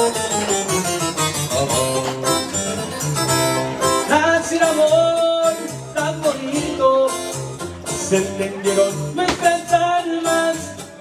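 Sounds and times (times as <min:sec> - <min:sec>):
guitar melody: 0:00.0 - 0:11.0
live band playing: 0:00.0 - 0:11.0.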